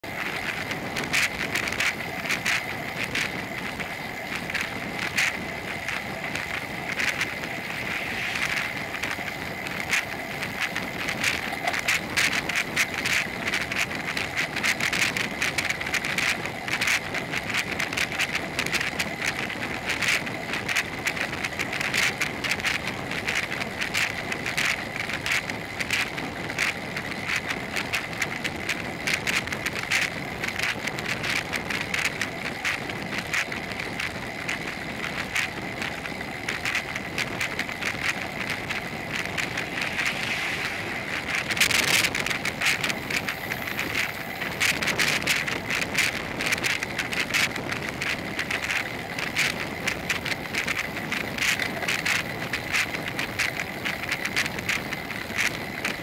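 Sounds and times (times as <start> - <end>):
bicycle clicks and rattles: 0.0 - 56.0
wind and tyre noise: 0.0 - 56.0.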